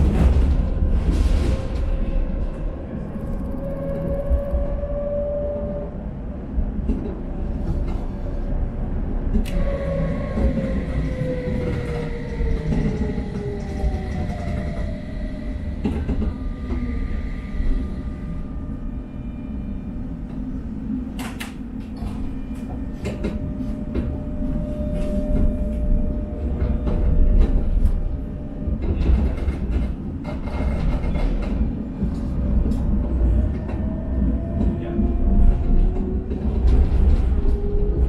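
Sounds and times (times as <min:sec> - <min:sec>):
tram motor whine: 0:00.0 - 0:38.0
tram running rumble: 0:00.0 - 0:38.0.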